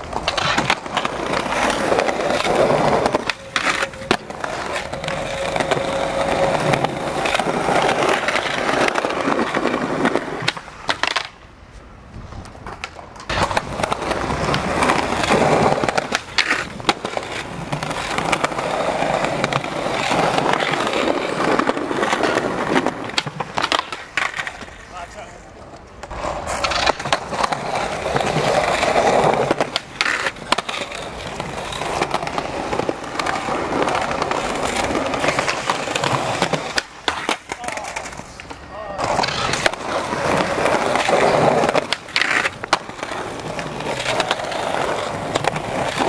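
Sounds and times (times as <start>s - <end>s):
skateboard clacks: 0.0s - 11.5s, 12.2s - 46.0s
skateboard wheels rolling on concrete: 0.0s - 46.0s.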